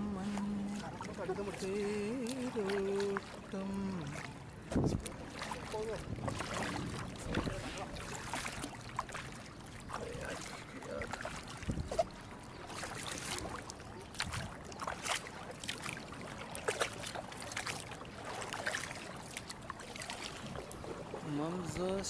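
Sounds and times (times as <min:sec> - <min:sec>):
kayak paddle splashing: 0:00.0 - 0:22.0.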